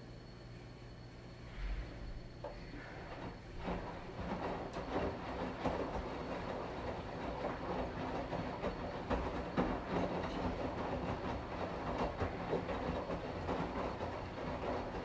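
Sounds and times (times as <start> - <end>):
washing machine running: 1.6 - 15.0
drum clunks and rattles: 2.5 - 15.0.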